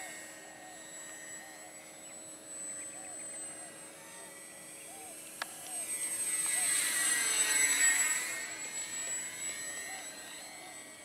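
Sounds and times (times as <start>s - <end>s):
rc glider motor and propeller whining: 0.0s - 11.0s.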